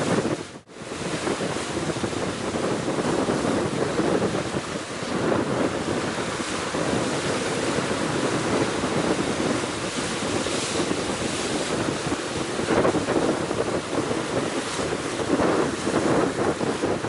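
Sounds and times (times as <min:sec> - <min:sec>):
sea waves: 0:00.0 - 0:17.0
strong wind buffeting microphone: 0:00.0 - 0:17.0.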